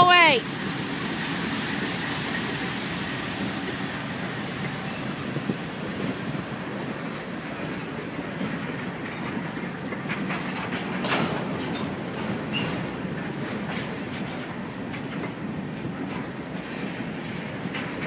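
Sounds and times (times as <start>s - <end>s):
clicks and knocks of train cars: 0.0s - 18.0s
train wheels rumbling on rails: 0.0s - 18.0s.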